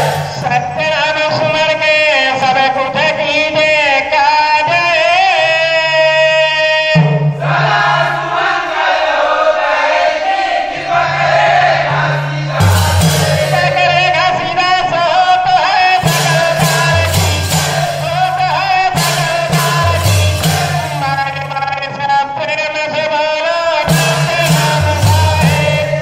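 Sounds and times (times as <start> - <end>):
voices singing and chanting: 0.0 - 26.0.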